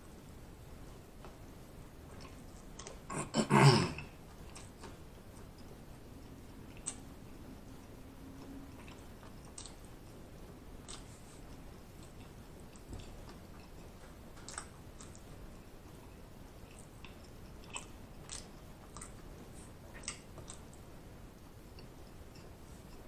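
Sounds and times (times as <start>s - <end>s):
person chewing food: 2.0s - 20.8s, 21.6s - 23.0s.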